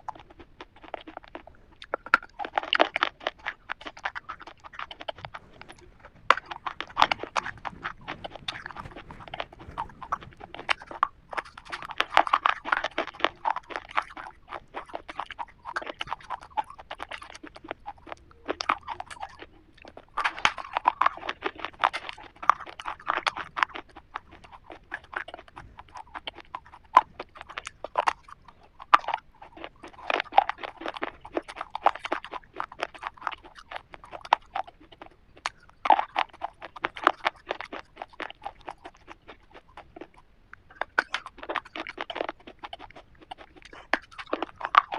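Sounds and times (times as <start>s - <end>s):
chewing crunchy wafer bar: 0.0s - 44.9s.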